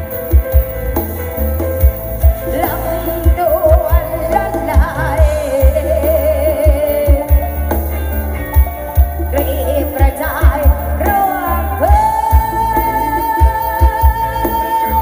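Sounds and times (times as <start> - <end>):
song with heavy bass: 0.0 - 15.0.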